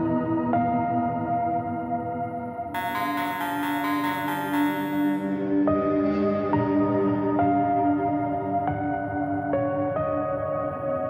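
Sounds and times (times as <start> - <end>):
ambient music held notes: 0.0 - 11.0.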